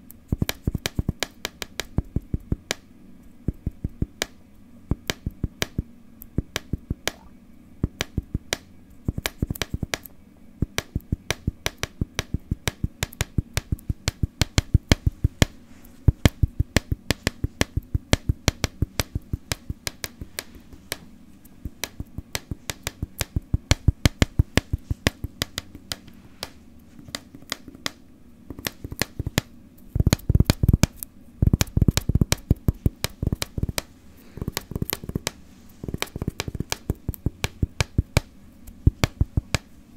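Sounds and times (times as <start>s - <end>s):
fingers tapping on objects: 0.3s - 39.7s.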